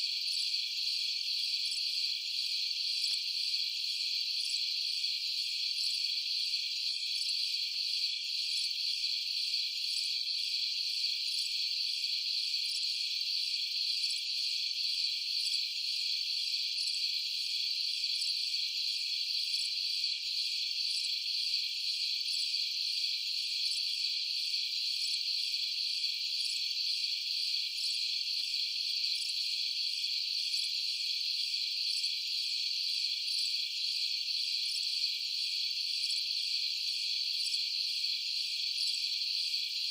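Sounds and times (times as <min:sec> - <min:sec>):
crickets and night insects trilling: 0:00.0 - 0:39.9.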